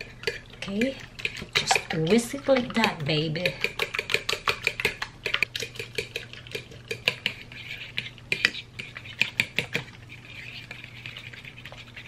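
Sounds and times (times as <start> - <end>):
fork whisking egg in bowl: 0.0 - 12.0.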